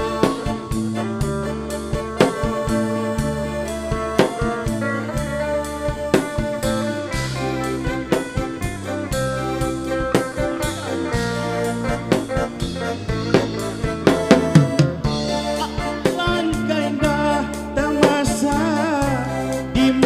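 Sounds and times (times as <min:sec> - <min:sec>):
guitar: 0:00.0 - 0:20.0
live band instrumental: 0:00.0 - 0:20.0.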